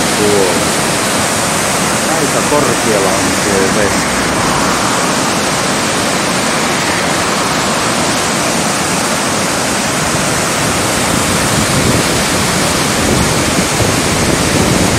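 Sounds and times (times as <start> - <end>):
river rapids rushing: 0.0 - 14.9.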